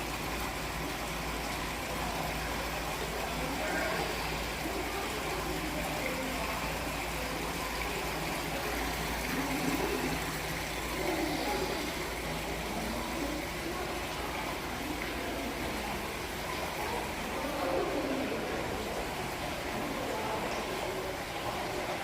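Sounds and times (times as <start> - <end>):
faint voices: 0.0 - 22.0
running water rushing: 0.0 - 22.0.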